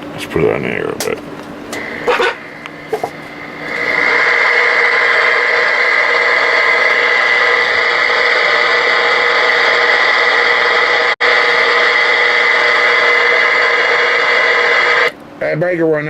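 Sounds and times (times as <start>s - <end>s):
radio static: 1.8s - 15.1s.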